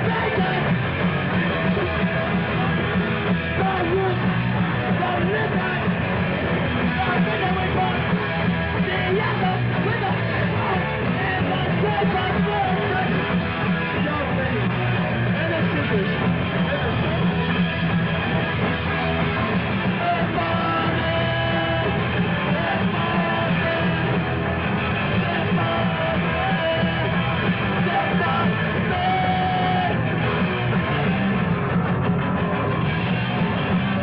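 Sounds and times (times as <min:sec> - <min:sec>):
person singing: 0:00.0 - 0:17.6, 0:18.5 - 0:30.1
electric guitar: 0:00.0 - 0:34.0
punk band playing: 0:00.0 - 0:34.0.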